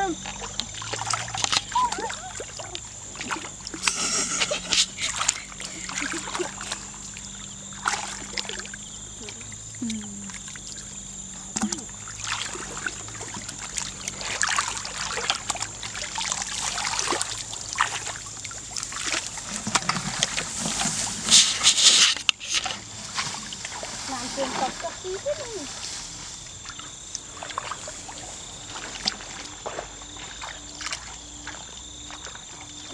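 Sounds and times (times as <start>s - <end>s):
feet wading through water: 0.0s - 32.9s.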